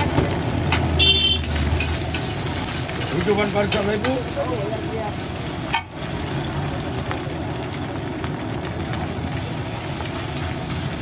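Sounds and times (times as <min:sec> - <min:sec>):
omelette sizzling in butter: 0:00.0 - 0:11.0.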